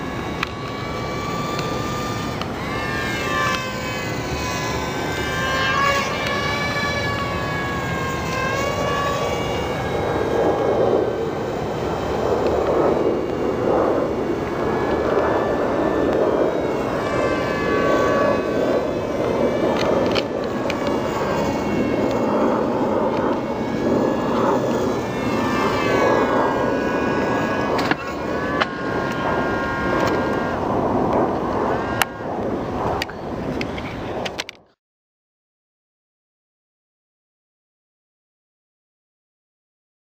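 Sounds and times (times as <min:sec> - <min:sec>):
wind rush on microphone: 0:00.0 - 0:34.7
model airplane motors whining: 0:00.0 - 0:34.8.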